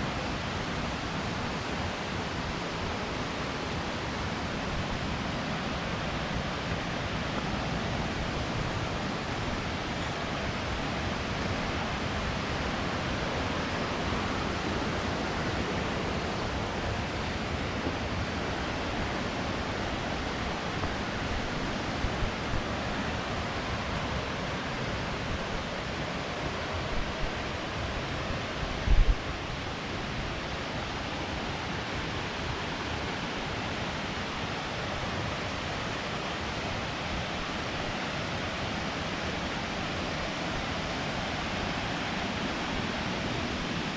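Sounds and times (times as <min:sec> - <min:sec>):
waterfall rushing: 0:00.0 - 0:21.7, 0:22.7 - 0:43.9.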